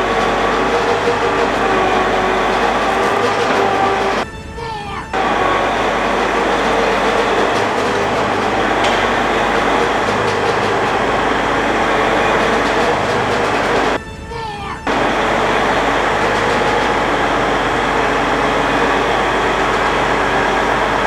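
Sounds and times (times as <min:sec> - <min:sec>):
mechanical clatter: 0:00.0 - 0:04.3, 0:05.2 - 0:14.0, 0:14.9 - 0:21.0
tracked tractor engine rumble: 0:00.0 - 0:04.3, 0:05.1 - 0:14.0, 0:14.8 - 0:21.0.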